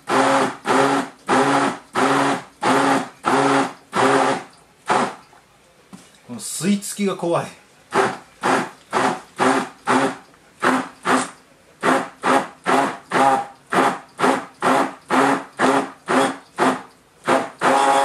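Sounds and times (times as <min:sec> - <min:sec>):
stick blender whirring in pulses: 0:00.0 - 0:05.2, 0:07.9 - 0:18.0.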